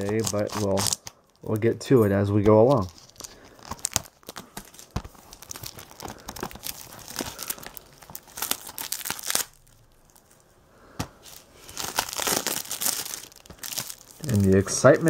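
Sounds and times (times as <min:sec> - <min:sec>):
plastic shrink wrap tearing: 0:00.0 - 0:01.7, 0:02.6 - 0:10.4, 0:11.2 - 0:15.0.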